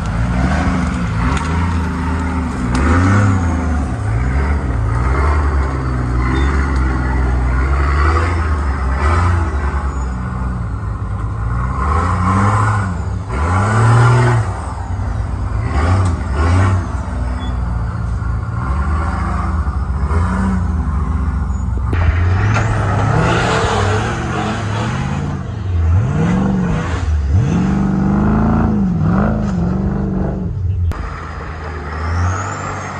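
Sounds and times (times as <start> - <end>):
truck engine revving: 0.0 - 32.9.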